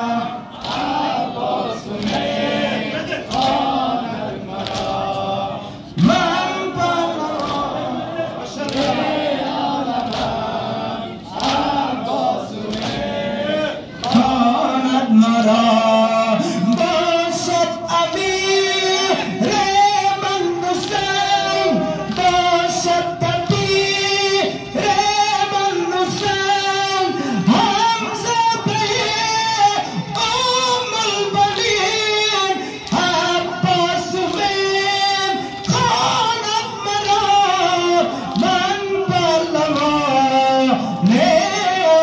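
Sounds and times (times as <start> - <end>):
person chanting a lament: 0.0 - 42.0.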